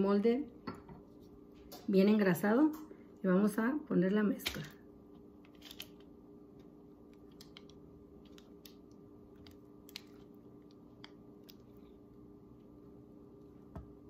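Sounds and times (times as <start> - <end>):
quiet steady hum: 0.0 - 14.0.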